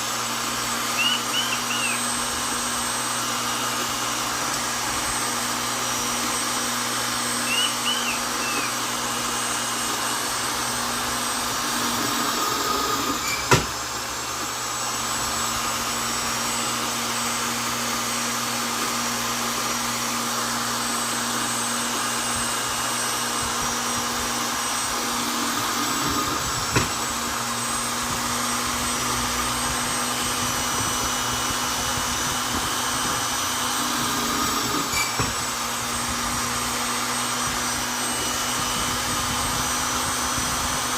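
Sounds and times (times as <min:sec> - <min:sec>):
electric drill running: 0:00.0 - 0:40.9.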